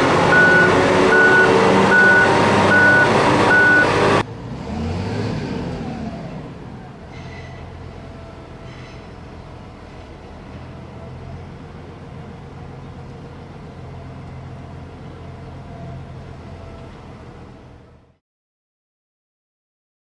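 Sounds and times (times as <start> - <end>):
locomotive diesel engine humming: 0.0 - 4.5, 5.6 - 18.2.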